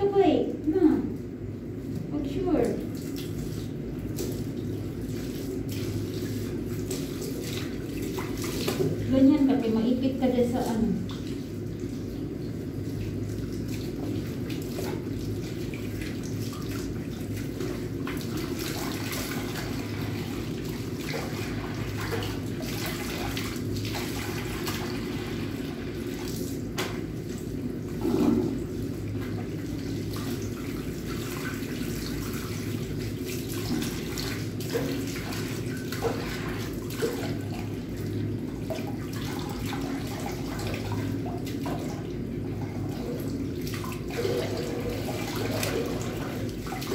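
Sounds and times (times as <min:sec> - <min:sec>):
water splashing: 0:02.6 - 0:09.2, 0:10.5 - 0:46.9.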